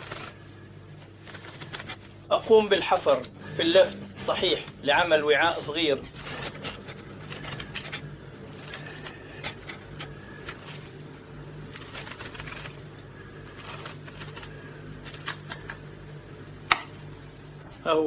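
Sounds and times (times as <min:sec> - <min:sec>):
tool scraping raw turnip: 0:00.0 - 0:17.7.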